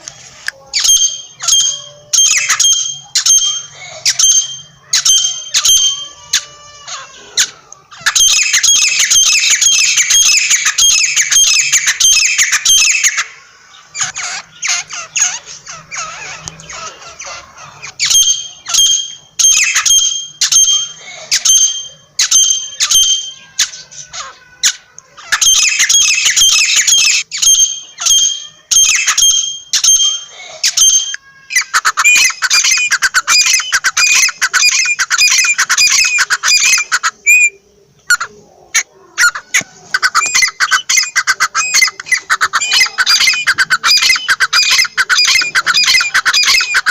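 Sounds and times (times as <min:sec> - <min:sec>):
francolin calling: 0:00.7 - 0:46.9.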